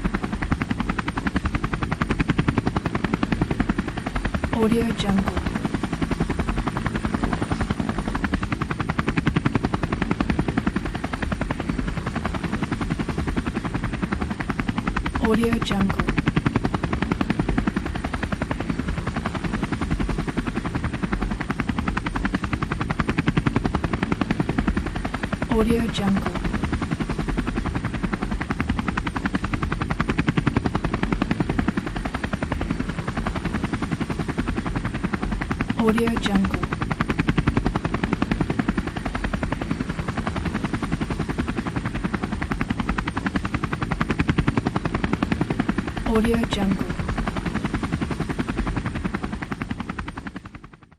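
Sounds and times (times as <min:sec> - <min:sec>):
engine and turbine rumble: 0:00.0 - 0:50.8
helicopter rotor chopping: 0:00.0 - 0:50.9.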